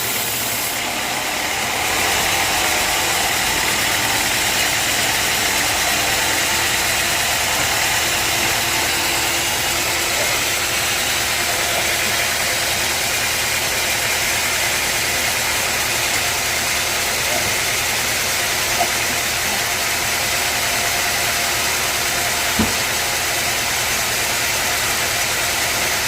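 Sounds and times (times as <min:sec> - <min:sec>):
sawmill machinery running: 0:00.0 - 0:26.0.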